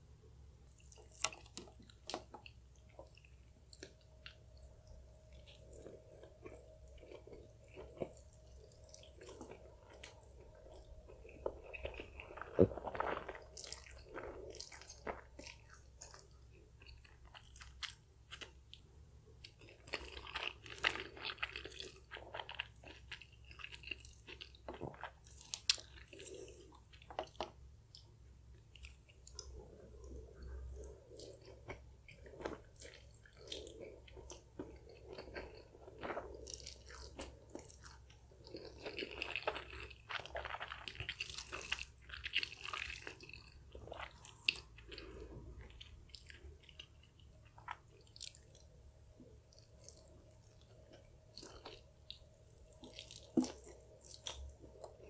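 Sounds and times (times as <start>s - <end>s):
chewing and slurping noodles: 0.7s - 18.6s, 19.5s - 27.5s, 28.7s - 55.0s.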